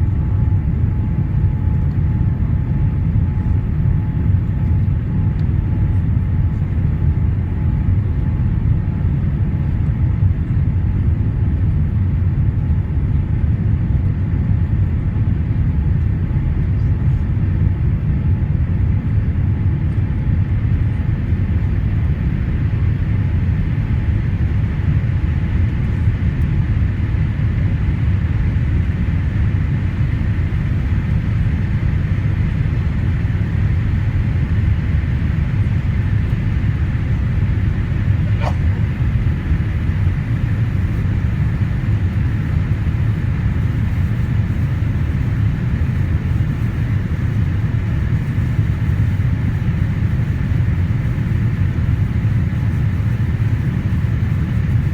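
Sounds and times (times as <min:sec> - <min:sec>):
jet engine cabin rumble: 0:00.0 - 0:54.9.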